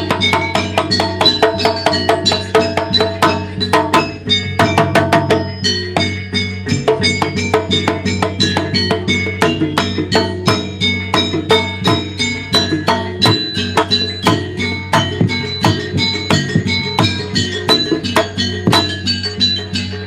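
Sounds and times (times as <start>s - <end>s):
gamelan ensemble playing: 0.0s - 20.0s.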